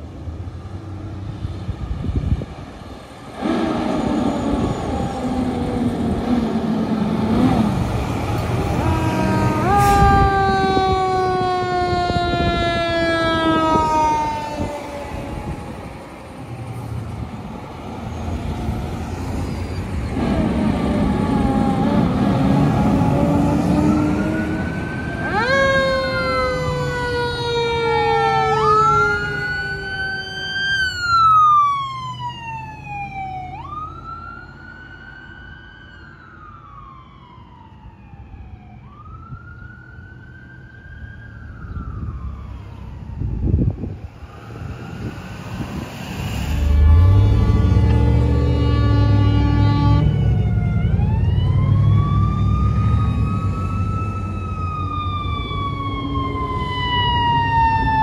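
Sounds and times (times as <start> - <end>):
truck engine rumble: 0.0 - 34.4, 39.0 - 58.0
fire truck siren wailing: 0.0 - 58.0.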